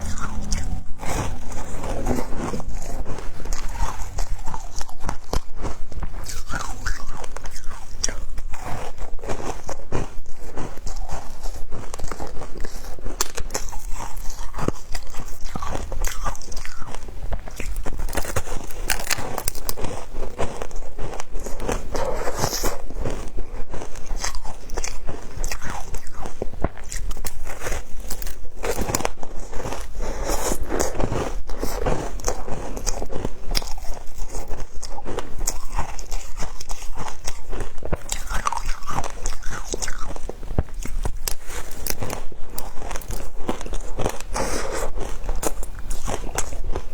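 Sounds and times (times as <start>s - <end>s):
ice being crunched and chewed: 0.0s - 46.9s.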